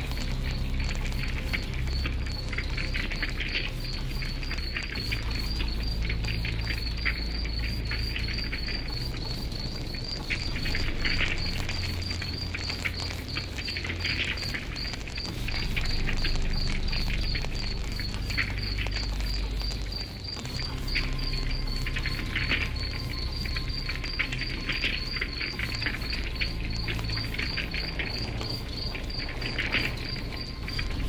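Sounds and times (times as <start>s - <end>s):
campfire crackling and popping: 0.0s - 31.0s
cricket chirping: 0.0s - 31.0s
low steady rumble: 0.0s - 31.0s.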